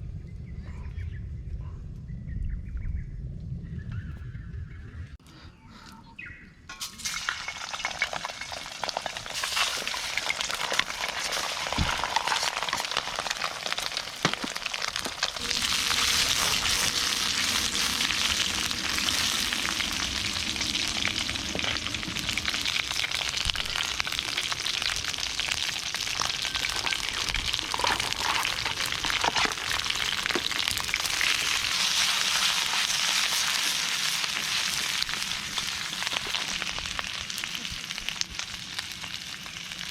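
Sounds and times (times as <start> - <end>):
food sizzling in a wok: 6.7 - 39.9.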